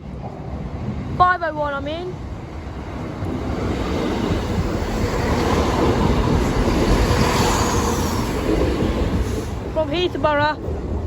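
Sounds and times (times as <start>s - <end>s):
train rumbling over crossing: 0.0s - 11.0s.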